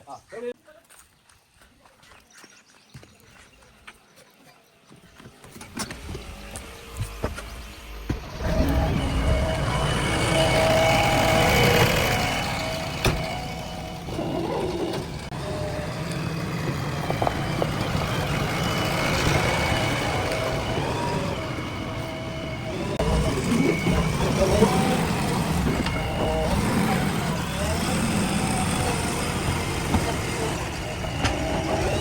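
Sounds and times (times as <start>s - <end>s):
diesel engine running: 5.7s - 32.0s.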